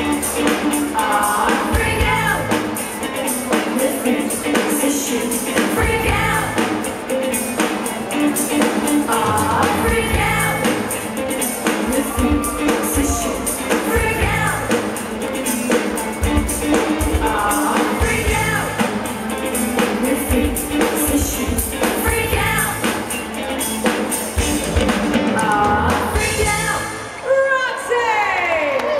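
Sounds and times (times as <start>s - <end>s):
person singing: 0.0s - 23.8s, 24.4s - 27.2s
steady drum beat: 0.0s - 26.8s
live rock band playing: 0.0s - 27.2s
electric guitar: 0.0s - 27.4s.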